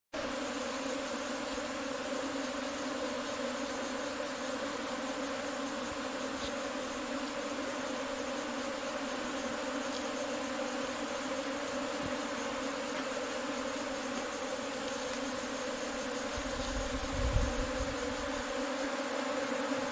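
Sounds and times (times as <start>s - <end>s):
bee swarm buzzing: 0.2s - 19.9s.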